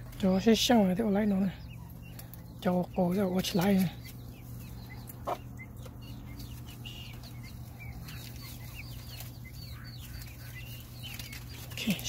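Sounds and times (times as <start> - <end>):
caged birds chirping: 0.0 - 12.0
low steady hum: 0.0 - 12.0.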